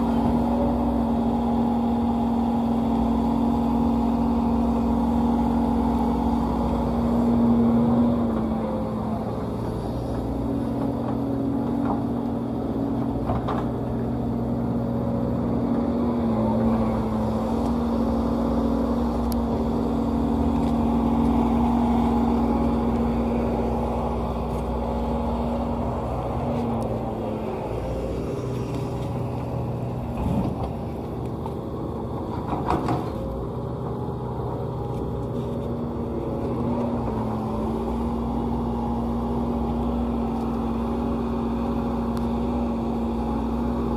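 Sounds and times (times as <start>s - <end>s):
excavator diesel engine under load: 0.0s - 43.9s.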